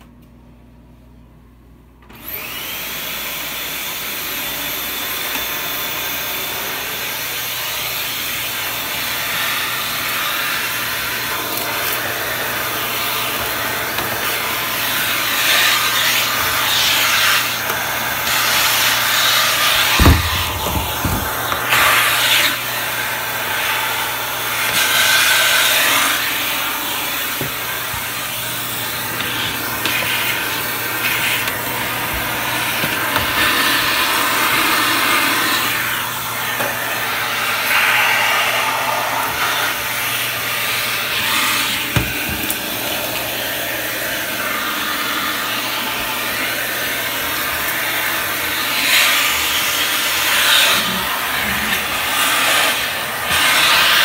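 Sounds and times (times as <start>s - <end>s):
vacuum cleaner running: 1.9s - 54.0s.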